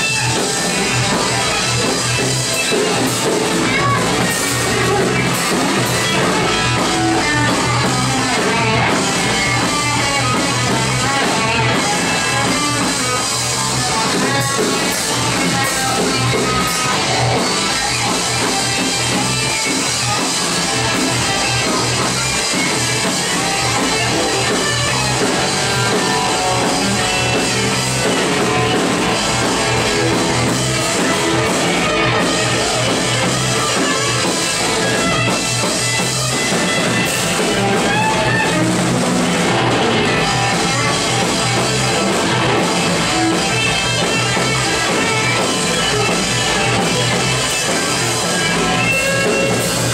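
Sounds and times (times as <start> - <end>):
drums: 0.0 - 49.9
electric guitar: 0.0 - 49.9.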